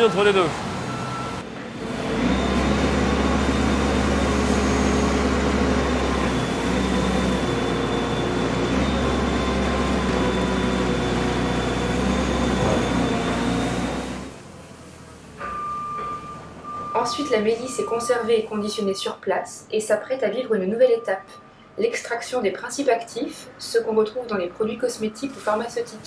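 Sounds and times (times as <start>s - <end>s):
diesel engine under load: 0.0s - 19.1s, 23.2s - 26.0s.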